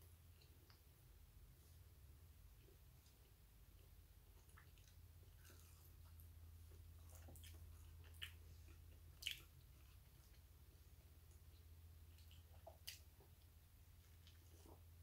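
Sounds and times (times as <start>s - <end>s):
low steady hum: 0.0s - 15.0s
wet chewing: 2.6s - 15.0s.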